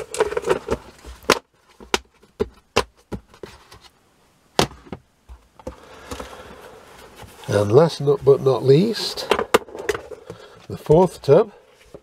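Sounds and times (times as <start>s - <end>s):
plastic tubs rustling: 0.0s - 4.0s, 4.6s - 12.0s.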